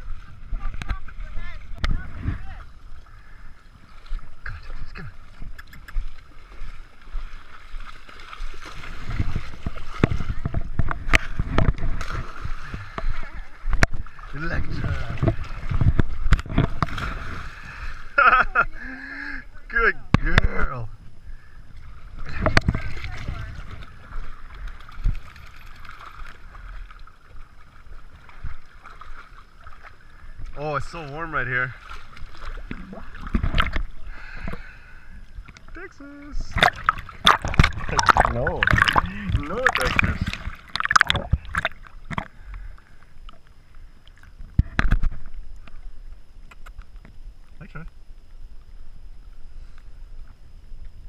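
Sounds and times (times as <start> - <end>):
water splashing from wading: 0.0 - 18.8, 21.7 - 45.1.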